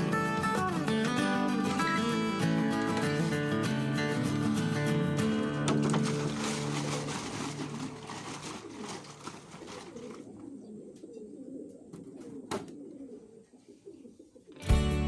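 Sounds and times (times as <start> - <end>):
pigeons cooing: 0.0 - 14.8.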